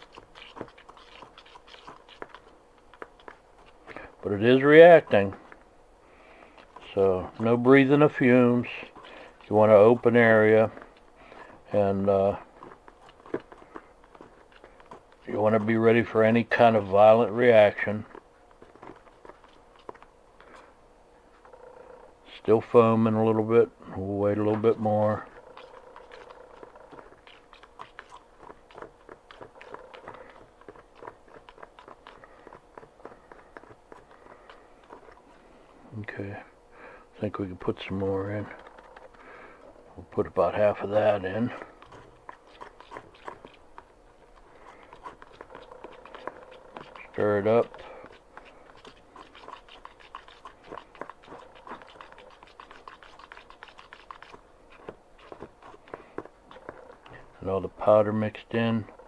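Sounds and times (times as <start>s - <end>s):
stirrer scraping plastic bottle: 0.0s - 21.4s, 22.2s - 59.0s.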